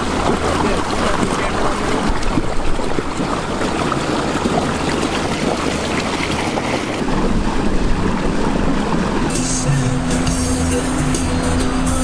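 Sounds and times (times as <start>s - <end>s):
low engine hum: 0.0s - 12.0s
water rushing along a boat hull: 0.0s - 12.0s.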